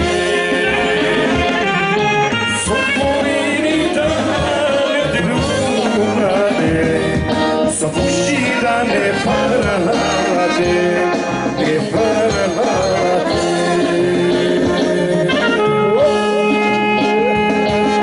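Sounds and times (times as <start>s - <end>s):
folk band playing: 0.0s - 18.0s.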